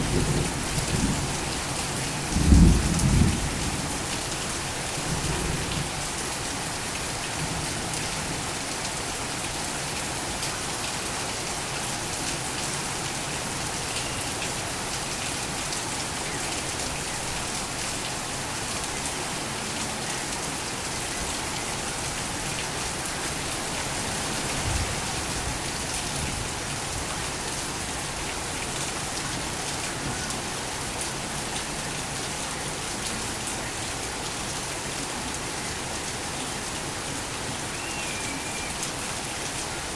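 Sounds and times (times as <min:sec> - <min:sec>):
torrential rain: 0:00.0 - 0:39.9.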